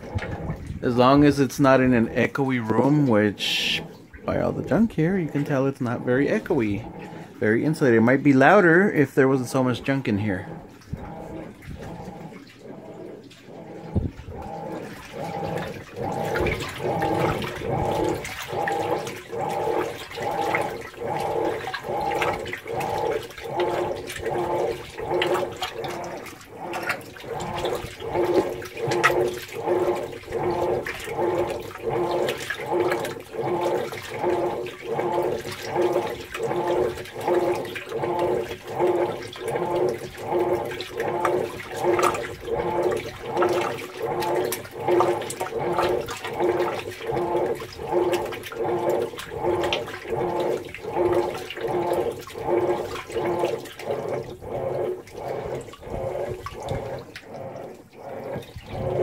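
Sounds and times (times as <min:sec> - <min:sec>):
washing machine motor hum: 0:00.0 - 0:59.0
water sloshing in washing machine: 0:00.0 - 0:59.0.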